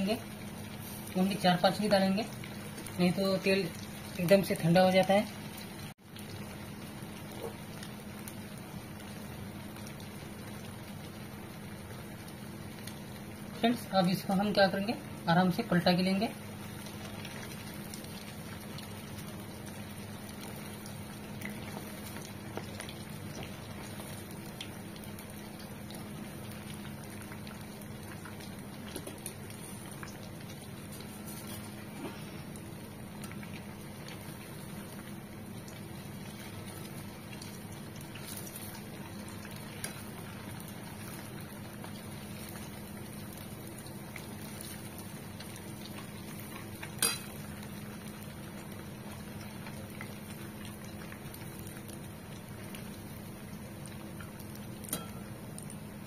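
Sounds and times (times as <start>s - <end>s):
deep-frying in hot oil sizzle: 0.0s - 56.0s.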